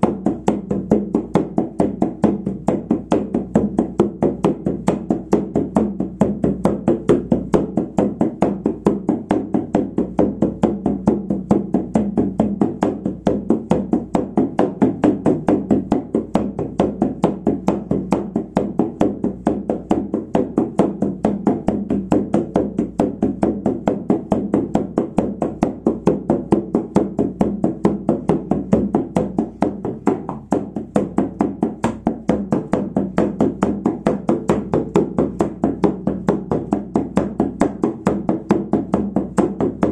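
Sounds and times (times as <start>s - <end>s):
frame drum steady beat: 0.0s - 39.9s.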